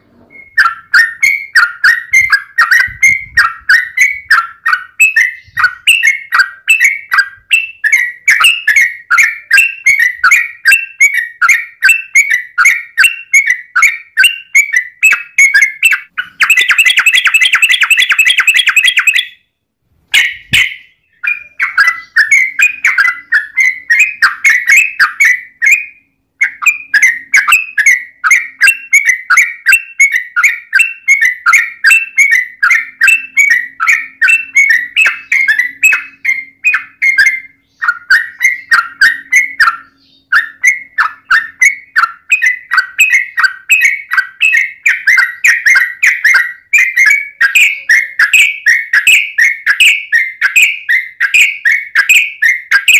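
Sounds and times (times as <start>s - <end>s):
bird trilling: 0.0s - 19.5s, 20.1s - 52.9s
bird chirping: 0.0s - 52.9s.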